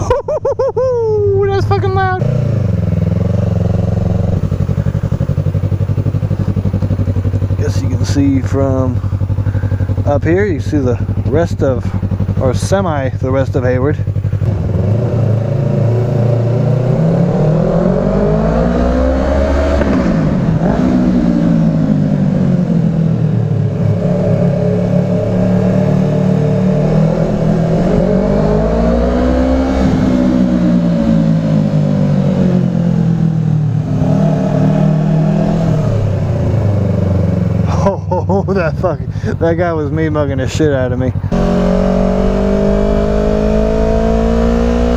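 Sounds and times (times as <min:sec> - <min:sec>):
motorcycle engine revving: 0:01.3 - 0:44.9.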